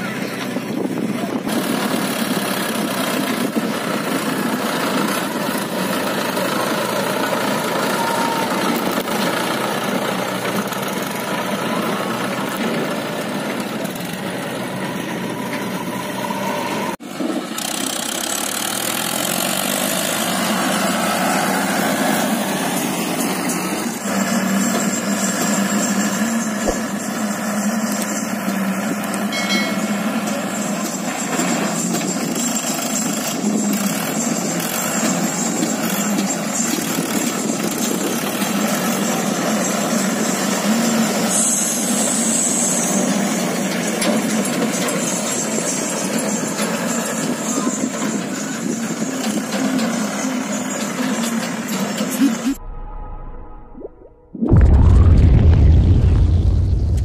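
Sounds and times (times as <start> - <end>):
tractor diesel engine under load: 0.0 - 52.6.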